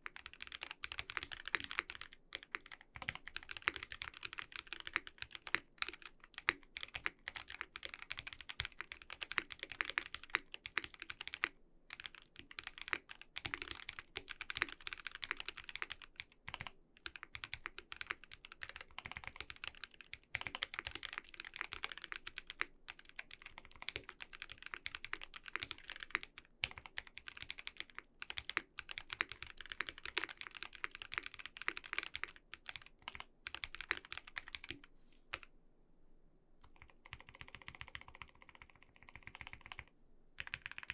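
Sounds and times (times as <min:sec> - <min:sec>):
mechanical keyboard typing: 0:00.0 - 0:35.5, 0:36.6 - 0:40.9.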